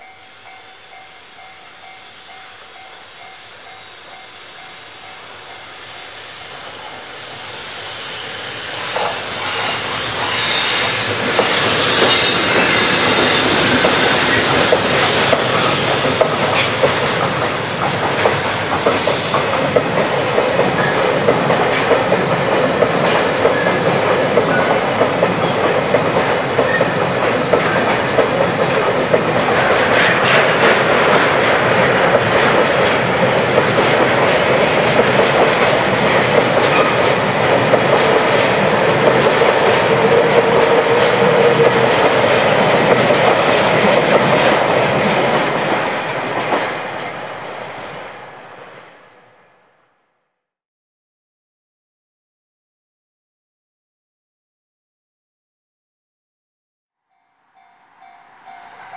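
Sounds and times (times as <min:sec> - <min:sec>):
freight train rumbling past: 0:00.0 - 0:49.7, 0:57.4 - 0:58.9.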